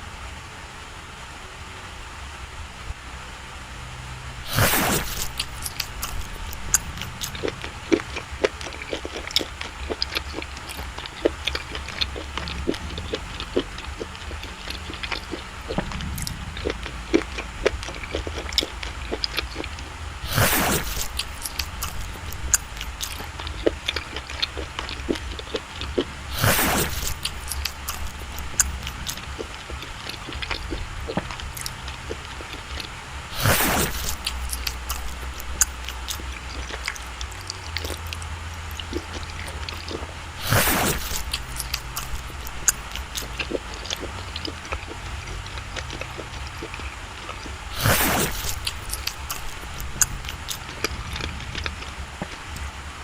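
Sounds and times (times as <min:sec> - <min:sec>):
rushing noise: 0:02.8 - 0:53.0
chewing and mouth smacking: 0:04.5 - 0:53.0.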